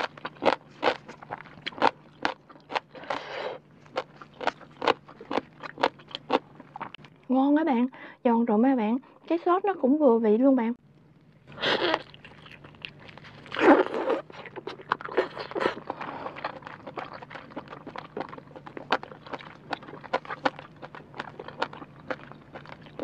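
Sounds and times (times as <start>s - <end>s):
chewing with clicks and crunches: 0.0s - 7.2s, 11.1s - 23.0s.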